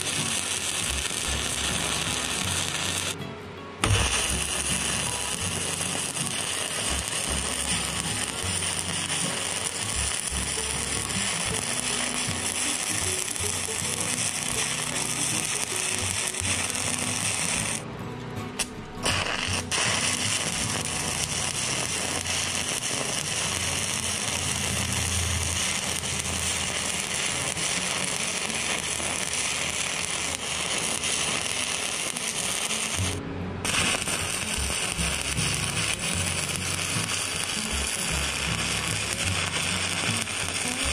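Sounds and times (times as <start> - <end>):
welding arc crackling: 0.0 - 3.2, 3.8 - 17.9, 18.5 - 40.9.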